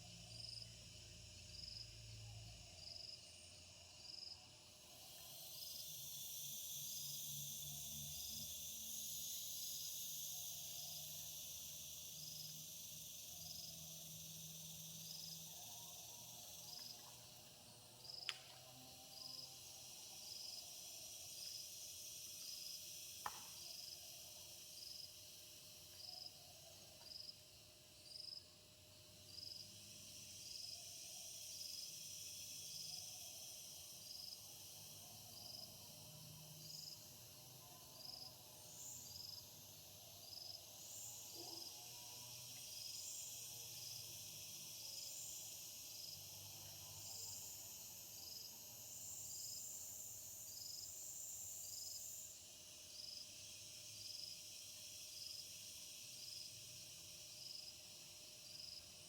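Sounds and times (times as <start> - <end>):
cricket chirping: 0.0 - 59.0
second insect chirping: 0.0 - 59.0
steady high insect buzz: 0.0 - 59.0.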